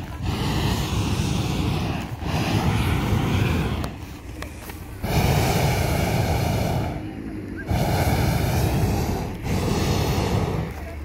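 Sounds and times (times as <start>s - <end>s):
propane burner blasts: 0.0s - 11.0s.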